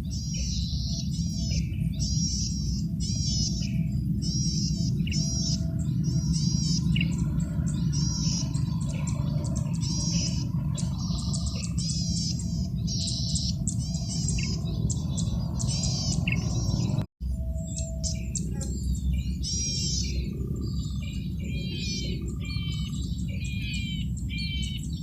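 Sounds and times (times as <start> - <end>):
bird singing buzzy phrases: 0.0 - 25.0
steady low rumble: 0.0 - 25.0.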